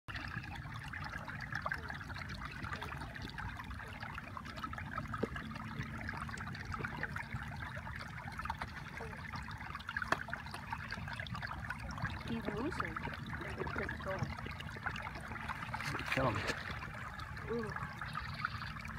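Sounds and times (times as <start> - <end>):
small clicks and splashes: 0.1 - 18.9
water trickling and lapping: 0.1 - 18.9.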